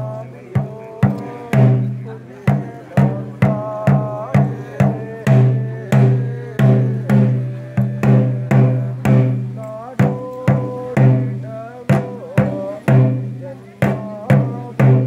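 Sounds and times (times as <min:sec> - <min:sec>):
ritual drums beating: 0:00.0 - 0:15.0.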